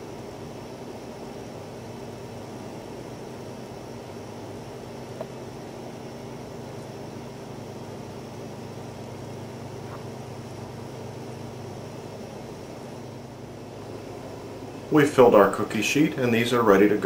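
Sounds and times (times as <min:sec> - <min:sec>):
ventilation fan hum: 0:00.0 - 0:17.0.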